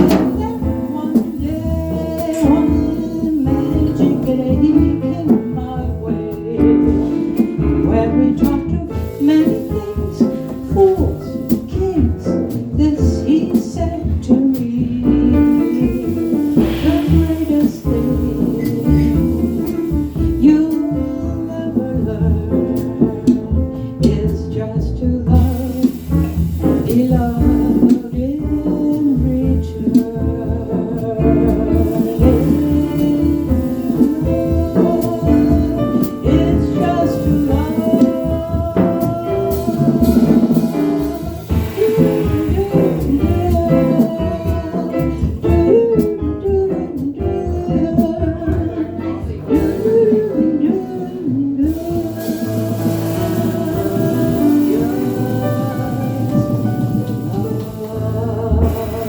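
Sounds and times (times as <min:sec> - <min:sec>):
jazz piano bass and drums: 0:00.0 - 0:59.0
woman singing: 0:00.0 - 0:59.0.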